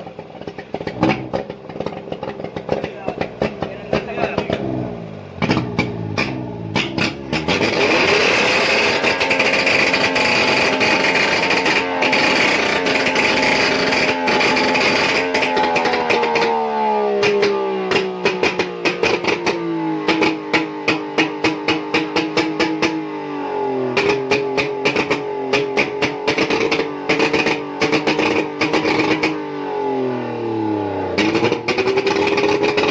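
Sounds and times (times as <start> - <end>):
two-stroke engine running: 0.0 - 23.1, 23.8 - 29.4, 30.5 - 32.9.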